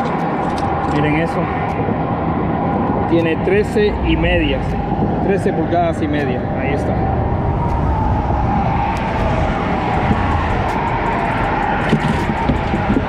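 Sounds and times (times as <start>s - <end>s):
faint wavering tyre whine: 0.0s - 13.0s
road traffic and tyres: 0.0s - 13.0s.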